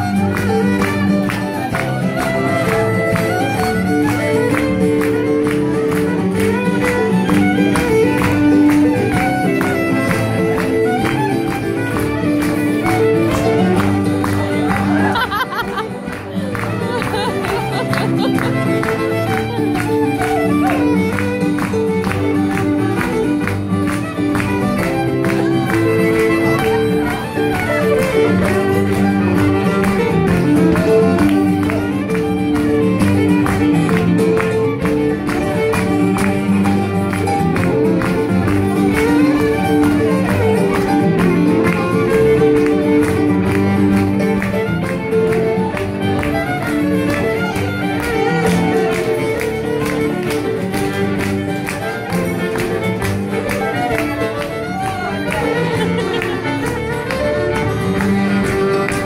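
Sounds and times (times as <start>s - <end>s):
fiddle playing dance tune: 0.0s - 59.0s
strummed guitar: 0.0s - 59.0s.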